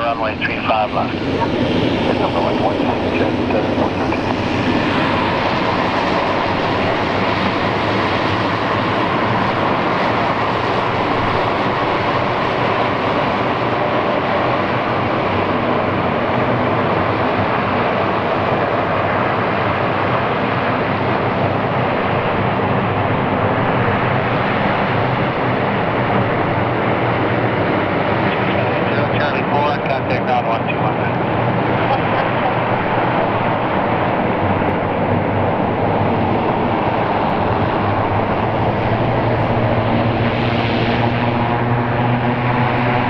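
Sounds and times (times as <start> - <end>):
turboprop engines droning: 0.0 - 43.0.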